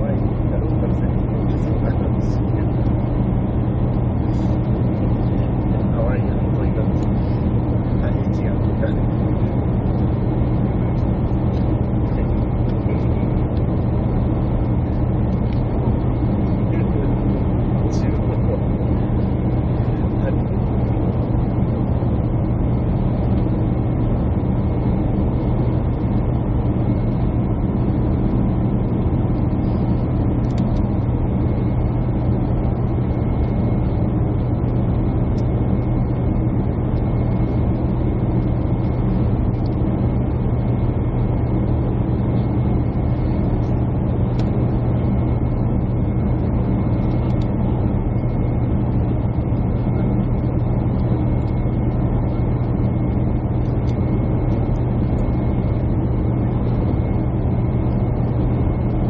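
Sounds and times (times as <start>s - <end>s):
faint thin whine: 0.0s - 59.0s
jet airliner cabin drone: 0.0s - 59.0s.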